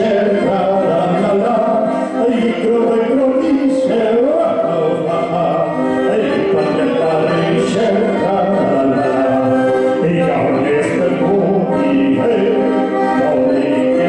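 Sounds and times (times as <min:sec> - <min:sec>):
backing music: 0:00.0 - 0:14.0
man singing into a microphone: 0:00.0 - 0:14.0.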